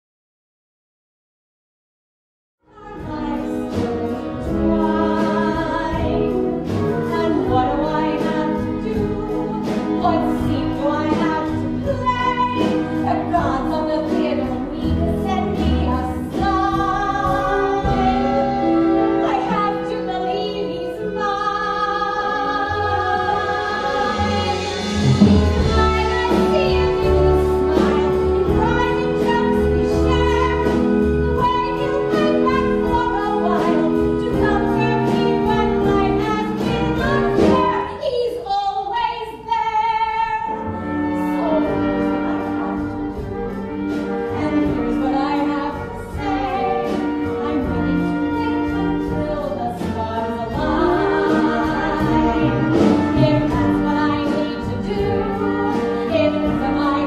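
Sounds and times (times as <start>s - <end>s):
woman singing: 2.7s - 24.9s, 25.5s - 57.0s
instrumental accompaniment: 2.7s - 57.0s.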